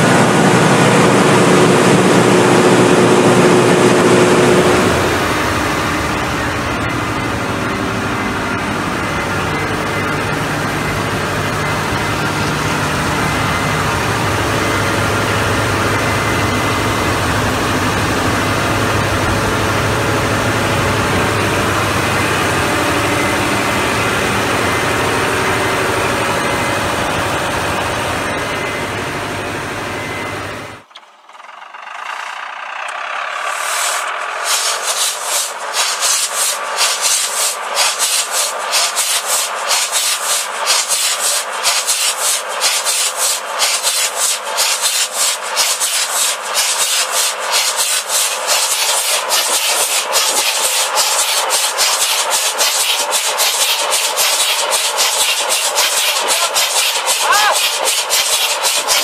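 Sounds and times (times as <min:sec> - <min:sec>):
diesel engine starting up: 0:00.0 - 0:59.0
large diesel engine running: 0:00.0 - 0:59.0.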